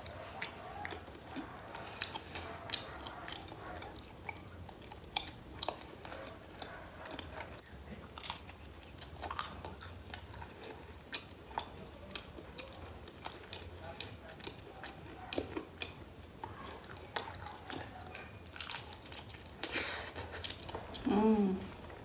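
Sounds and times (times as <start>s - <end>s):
close-miked chewing: 0.0s - 22.0s.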